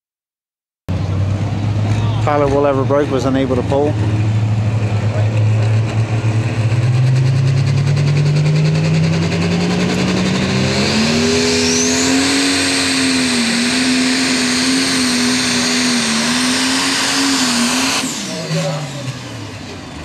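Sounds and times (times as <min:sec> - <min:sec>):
diesel tractor engine under load: 0:00.9 - 0:20.0
high whine: 0:01.0 - 0:20.0.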